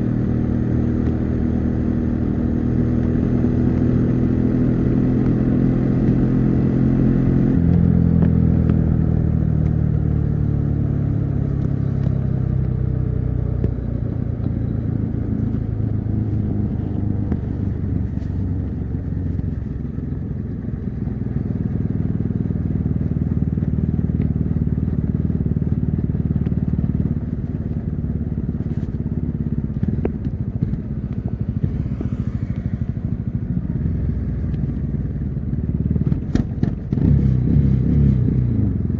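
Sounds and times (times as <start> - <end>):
motorcycle engine: 0.0 - 38.9
road and wind rumble: 0.0 - 38.9.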